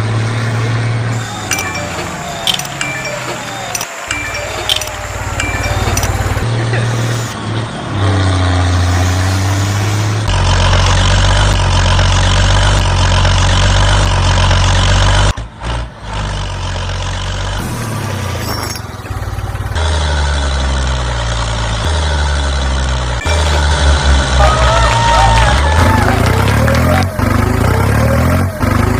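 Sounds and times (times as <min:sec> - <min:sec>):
electric motors rumbling and whining: 0:00.6 - 0:16.0, 0:17.5 - 0:28.9.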